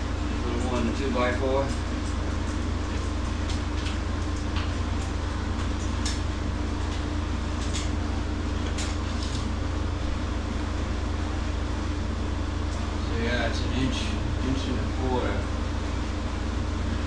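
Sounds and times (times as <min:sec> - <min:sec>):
refrigeration unit humming: 0:00.0 - 0:17.0.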